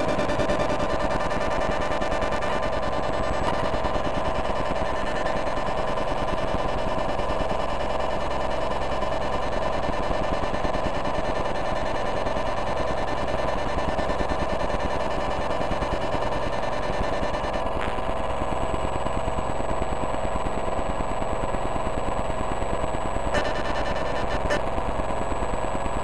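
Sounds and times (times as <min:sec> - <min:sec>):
pulsing electronic buzz: 0:00.0 - 0:26.0.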